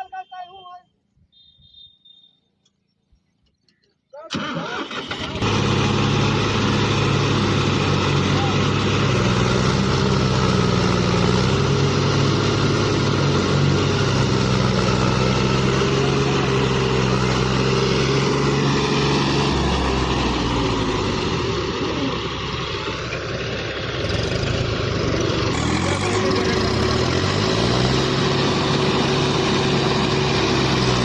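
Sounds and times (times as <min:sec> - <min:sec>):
tractor diesel engine running: 0:04.3 - 0:31.0.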